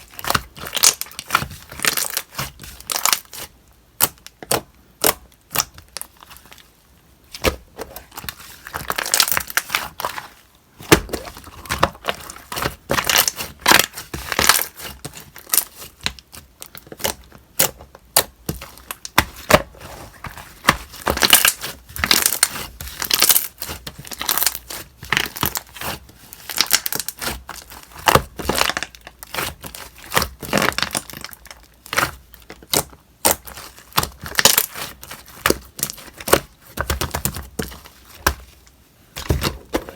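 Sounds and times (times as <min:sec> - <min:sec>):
slime squishing with sticky crackles: 0:00.0 - 0:39.9.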